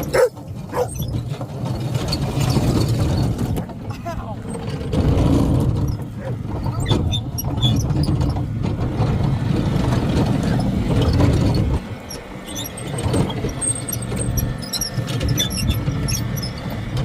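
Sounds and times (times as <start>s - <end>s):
lawn tractor engine running: 0.0s - 17.0s.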